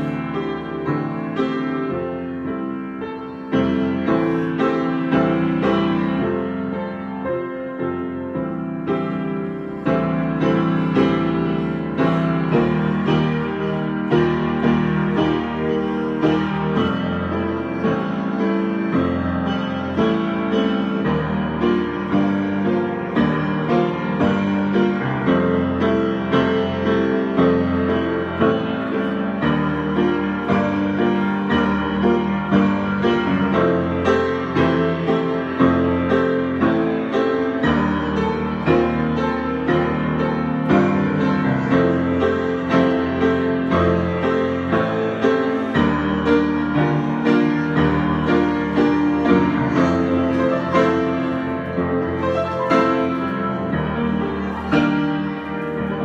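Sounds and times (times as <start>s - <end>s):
solo piano improvising: 0.0s - 56.0s.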